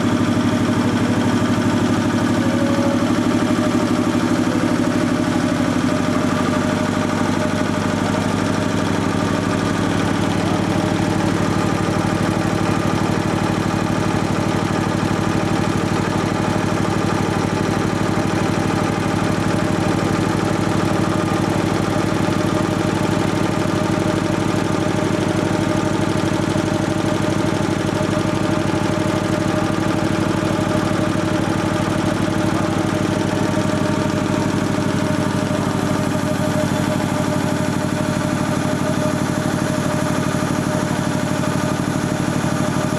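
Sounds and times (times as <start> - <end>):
piston air compressor running: 0.0 - 42.9.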